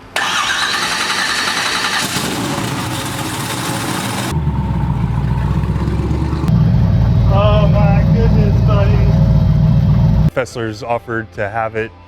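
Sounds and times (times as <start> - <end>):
car engine idling: 0.1 - 10.3.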